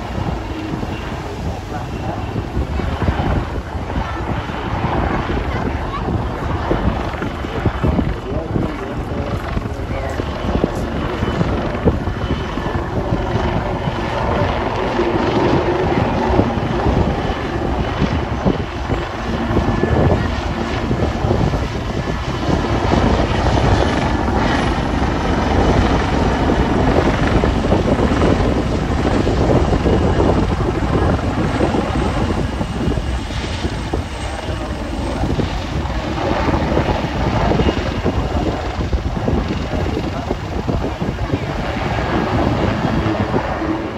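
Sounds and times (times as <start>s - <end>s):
helicopter rotor and engine rumble: 0.0s - 43.9s.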